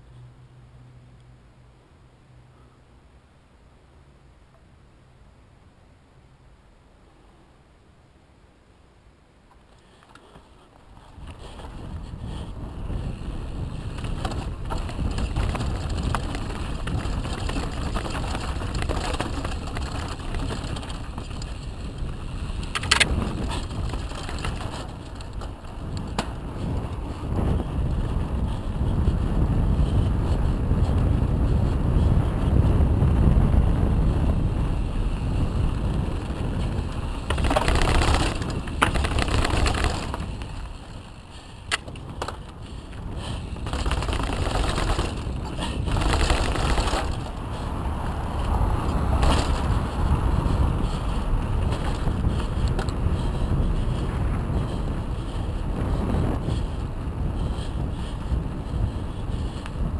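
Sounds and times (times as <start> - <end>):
bike rattling: 9.5 - 59.9
bike tyres rumbling on ground: 9.8 - 59.9
wind on microphone: 10.9 - 59.9.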